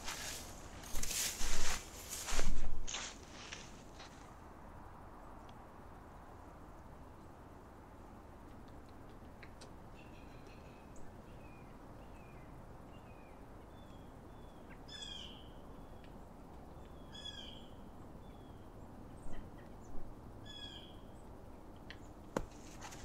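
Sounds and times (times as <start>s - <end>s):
low outdoor background noise: 0.0s - 23.0s.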